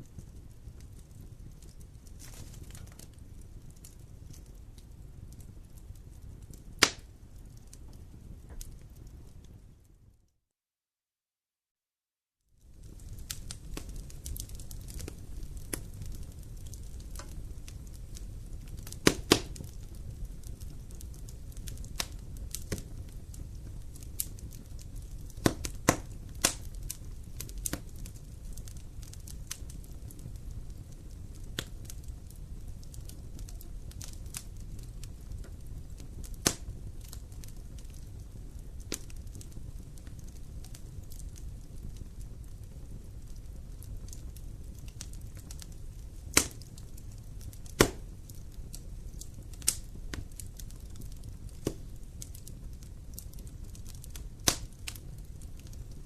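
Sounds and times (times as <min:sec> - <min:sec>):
campfire crackling and popping: 0:00.0 - 0:10.0, 0:12.6 - 0:56.0
low rumble of burning fire: 0:00.0 - 0:10.4, 0:12.4 - 0:56.0.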